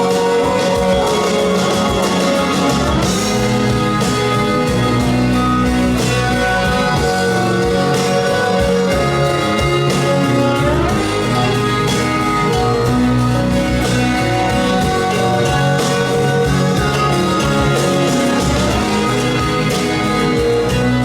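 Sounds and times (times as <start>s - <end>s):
instrumental pop-rock music: 0.0s - 21.0s.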